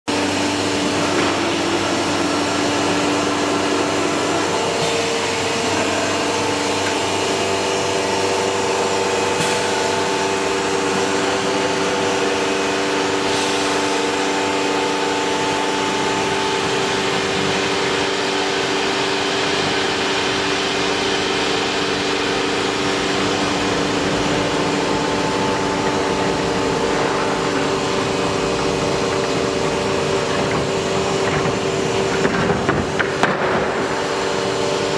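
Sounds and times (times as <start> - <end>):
woodworking machine whine and rush: 0.1 - 34.9.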